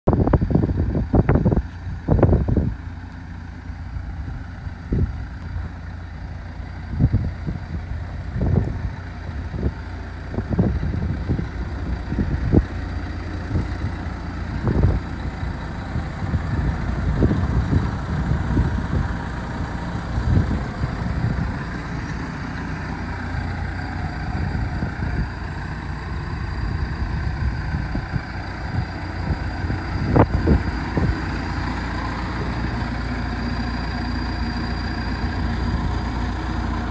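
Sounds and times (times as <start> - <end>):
wind buffeting microphone: 0.1 - 3.0, 3.8 - 36.9
engine running hum: 0.1 - 36.9.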